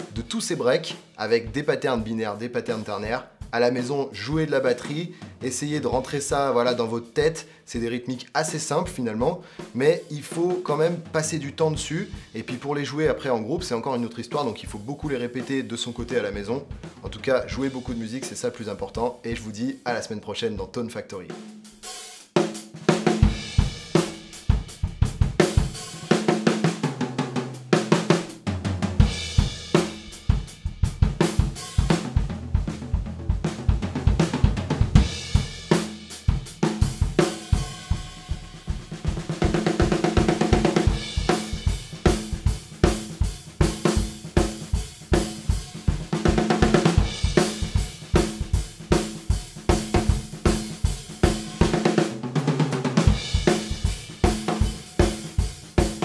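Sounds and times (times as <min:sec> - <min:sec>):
acoustic drum kit playing: 0:00.0 - 0:56.0.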